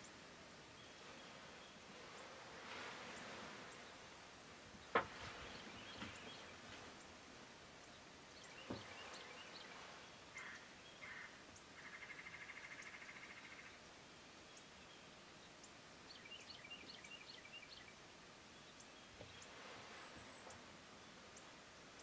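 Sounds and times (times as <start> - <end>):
songbirds calling: 0.0 - 22.0.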